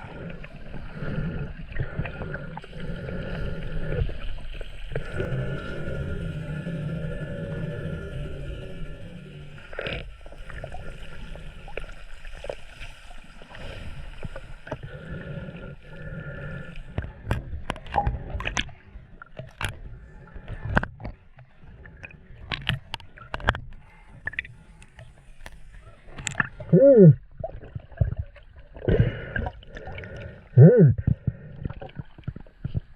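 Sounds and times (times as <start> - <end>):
sea water sloshing and gurgling: 0.0 - 32.9.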